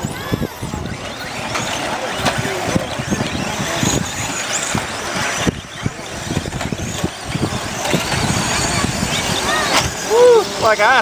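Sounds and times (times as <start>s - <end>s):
high rising whine: 0.0s - 11.0s
radio-controlled truck motors: 0.0s - 11.0s.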